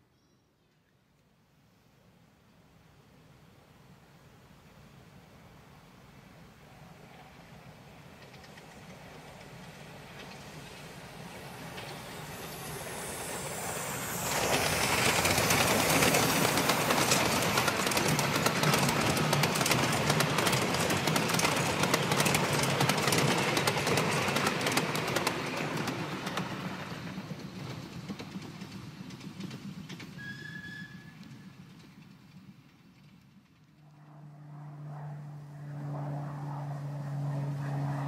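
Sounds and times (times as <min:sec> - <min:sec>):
miniature steam locomotive passing: 0:02.1 - 0:38.0.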